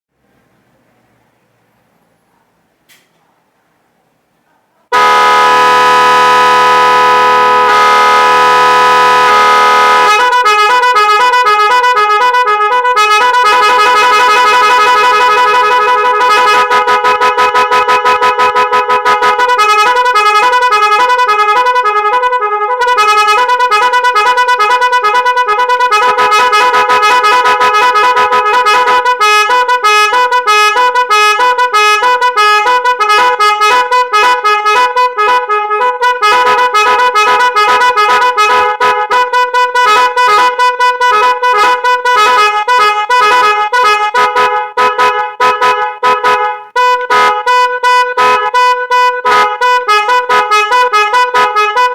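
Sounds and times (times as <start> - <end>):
electronic musical horn tune: 4.9 - 51.9.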